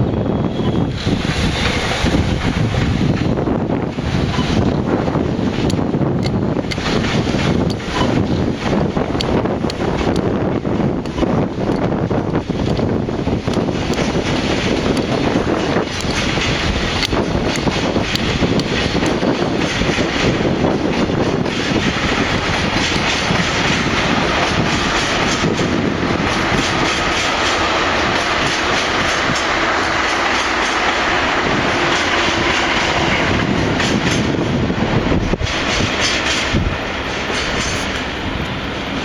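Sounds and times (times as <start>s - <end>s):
freight train rumbling: 0.0s - 39.0s
wheels clacking over rail joints: 1.5s - 39.0s.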